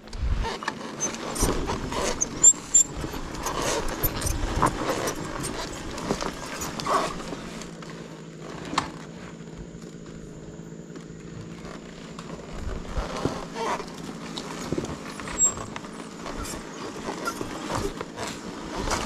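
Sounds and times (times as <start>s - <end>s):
dirt bike engine running: 0.1s - 19.0s
bike knocks and rattles: 0.5s - 19.0s.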